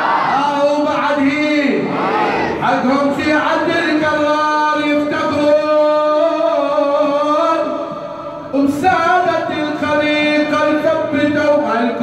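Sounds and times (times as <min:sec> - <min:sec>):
man chanting into a microphone: 0:00.0 - 0:12.0.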